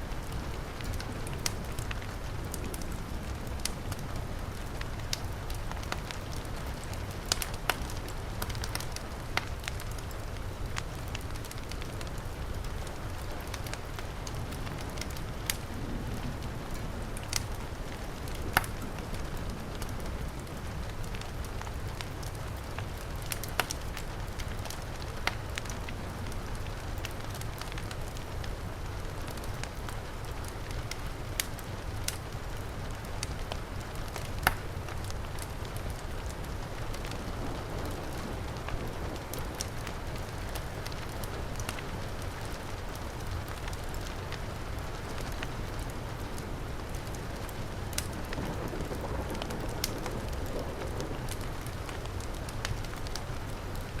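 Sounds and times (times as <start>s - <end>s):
heavy rain: 0.0s - 54.0s
wood fire crackling: 0.1s - 54.0s.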